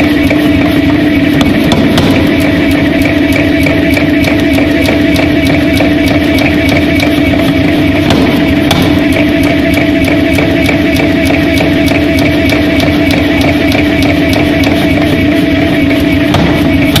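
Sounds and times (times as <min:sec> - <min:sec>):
air forging hammer drone: 0:00.0 - 0:17.0
hammer ram striking hot metal: 0:01.2 - 0:17.0.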